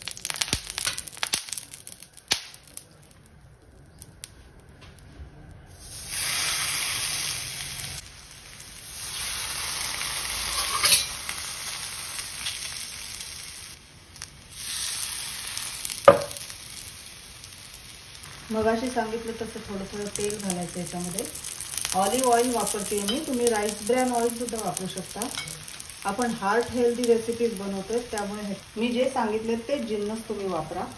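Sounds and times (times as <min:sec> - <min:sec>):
dough sizzling on a pan: 0:00.0 - 0:30.9
hot oil crackling: 0:00.0 - 0:30.9.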